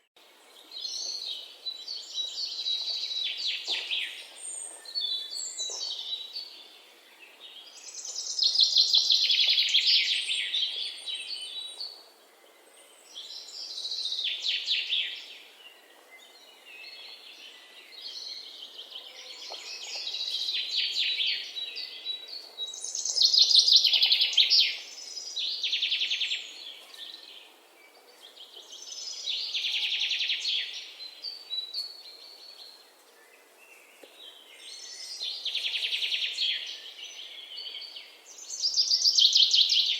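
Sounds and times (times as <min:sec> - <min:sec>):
songbird trilling song: 0:00.5 - 0:39.9.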